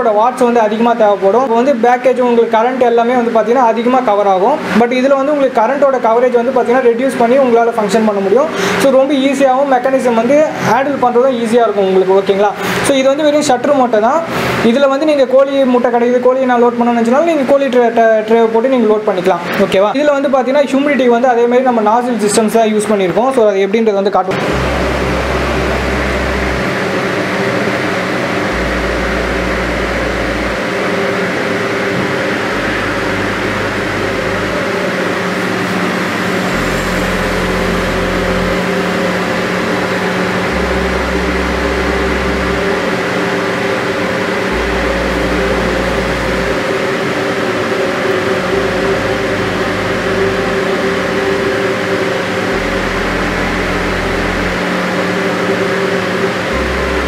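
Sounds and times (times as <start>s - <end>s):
fans whirring hum: 0.0s - 57.0s.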